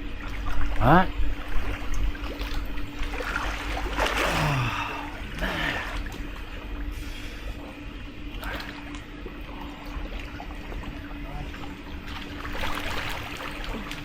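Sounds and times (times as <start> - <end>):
steady low hum: 0.0 - 14.0
water splashing from swimming: 0.0 - 14.0.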